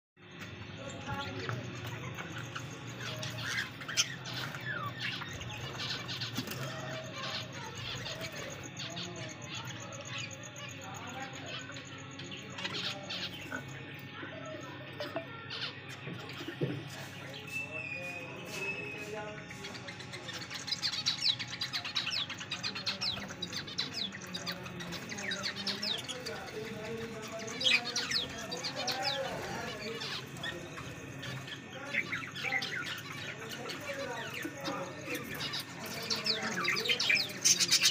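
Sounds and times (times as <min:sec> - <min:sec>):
birds chirping and chattering: 0:00.2 - 0:37.9.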